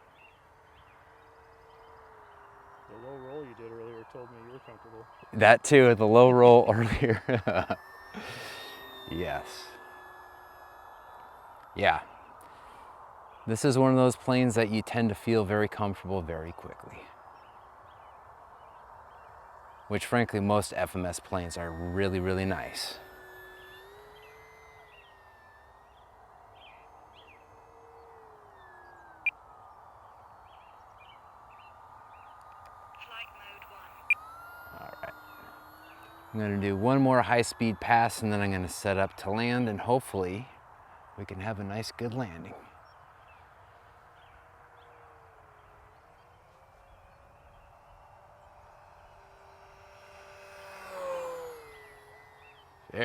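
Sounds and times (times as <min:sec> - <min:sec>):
bird chirps: 0:00.0 - 0:53.0
model plane motor whine: 0:00.0 - 0:53.0.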